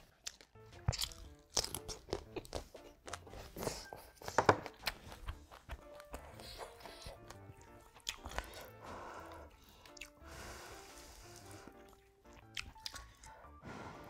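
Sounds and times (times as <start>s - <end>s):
crunchy chewing of food: 0.0s - 13.5s
soft background music: 0.0s - 14.0s.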